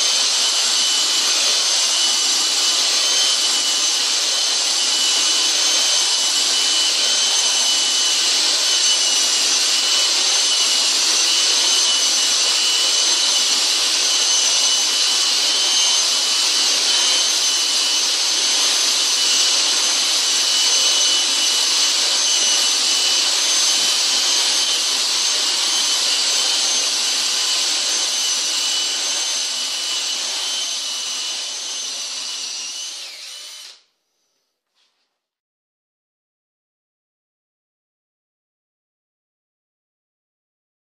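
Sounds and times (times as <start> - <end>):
drill grinding into tile: 0.0 - 34.4.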